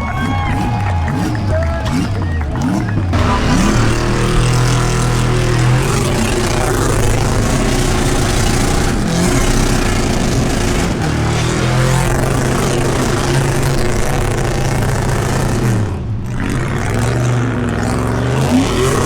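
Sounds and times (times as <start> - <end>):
engine revving hard: 0.0 - 19.0.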